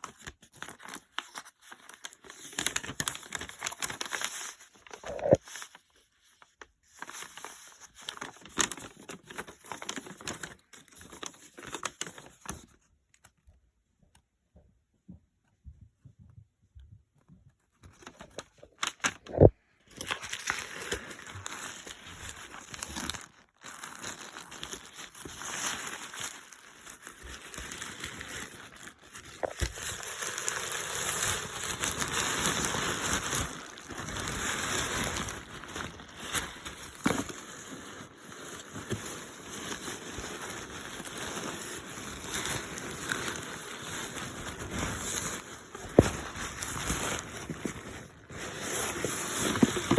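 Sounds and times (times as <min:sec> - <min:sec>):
packaging crinkling and rustling: 0:00.0 - 0:13.4, 0:17.8 - 0:49.9.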